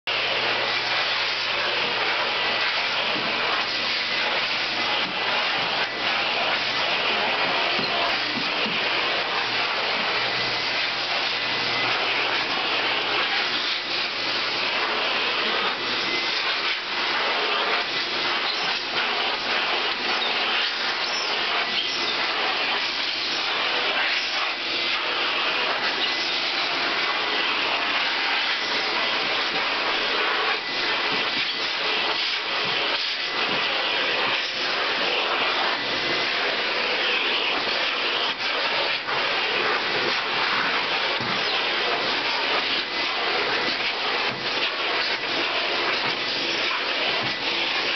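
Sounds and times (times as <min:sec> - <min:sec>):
vacuum cleaner running: 0:00.1 - 0:47.9.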